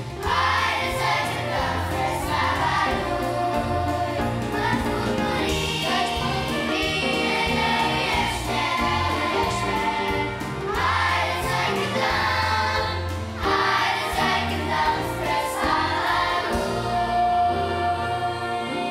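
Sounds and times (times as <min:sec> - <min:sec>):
children's choir singing: 0:00.0 - 0:18.9
instrumental accompaniment: 0:00.0 - 0:18.9
steady bass notes: 0:00.0 - 0:18.9.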